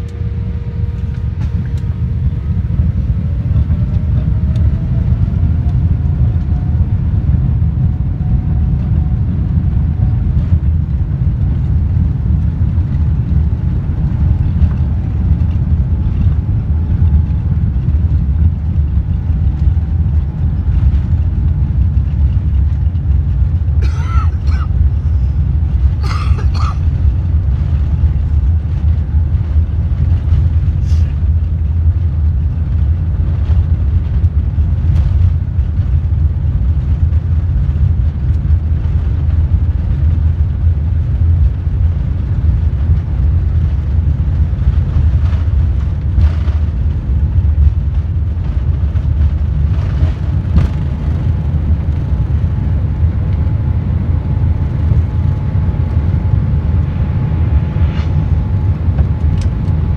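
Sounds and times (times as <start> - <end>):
airliner engines and wheels rumbling: 0.0 - 59.9.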